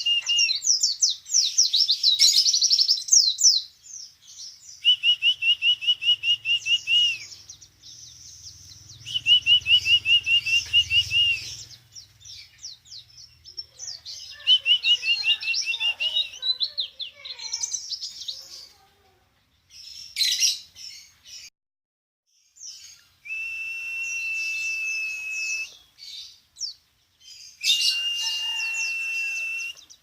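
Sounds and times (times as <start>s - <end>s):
songbird chirping and twittering: 0.0s - 21.5s, 22.3s - 30.0s.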